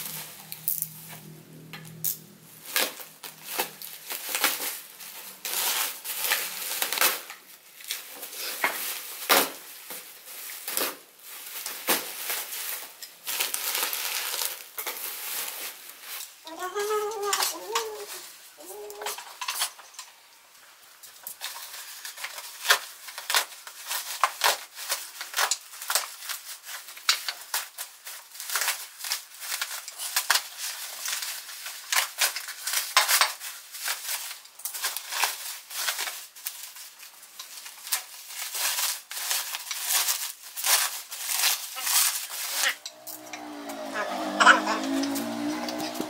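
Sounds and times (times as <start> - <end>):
plastic packaging crinkling: 0.0 - 1.4, 2.0 - 19.9, 20.6 - 46.0.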